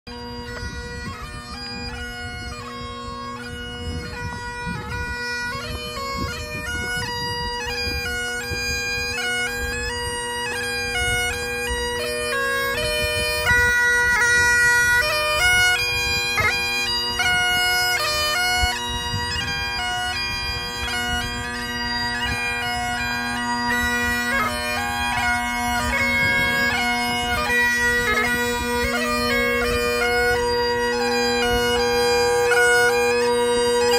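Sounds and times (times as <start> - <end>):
bagpipes playing a tune: 0.1 - 33.9.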